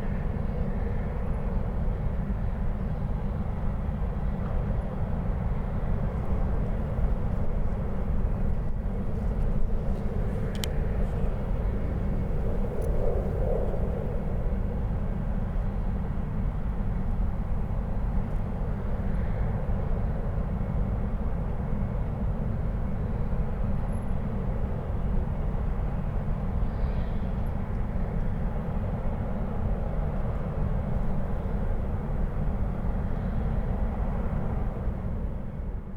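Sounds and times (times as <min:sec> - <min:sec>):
low rumble of refinery machinery: 0:00.0 - 0:35.9.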